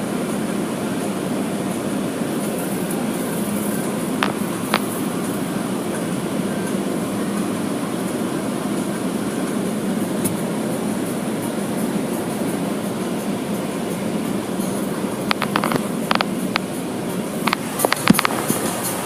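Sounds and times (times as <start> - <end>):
car wash equipment rushing: 0.0 - 19.0.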